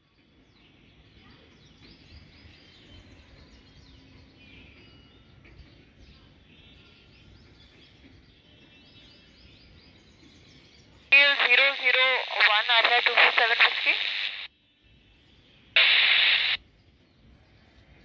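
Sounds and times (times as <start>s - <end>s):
low outdoor background noise: 0.0s - 18.0s
faint birdsong: 0.3s - 18.0s.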